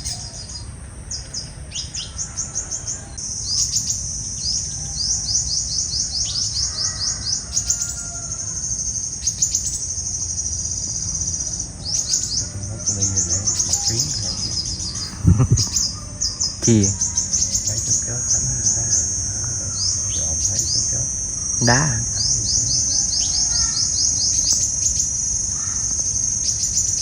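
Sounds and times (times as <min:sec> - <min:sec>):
sunbirds chirping: 0:00.0 - 0:27.0.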